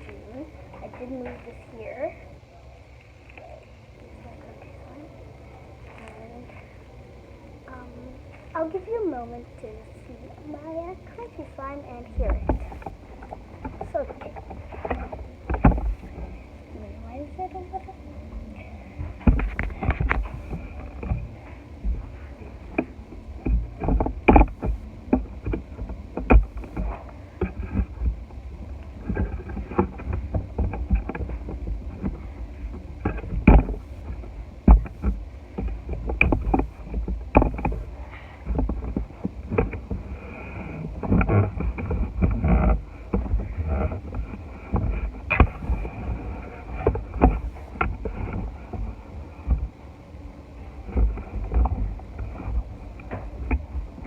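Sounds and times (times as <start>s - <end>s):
low squishing handling noise: 2.4s - 54.0s.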